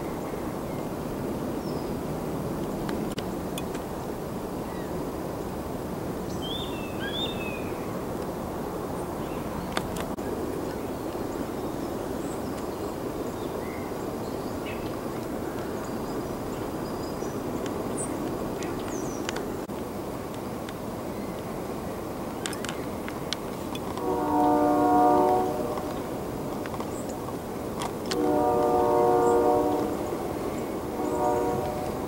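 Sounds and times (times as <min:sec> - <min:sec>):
low rushing background noise: 0:00.0 - 0:32.0.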